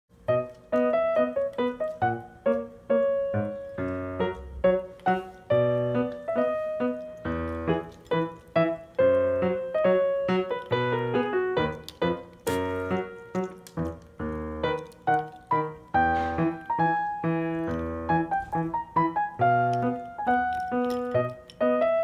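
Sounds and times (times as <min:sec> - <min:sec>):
piano music: 0:00.1 - 0:22.0.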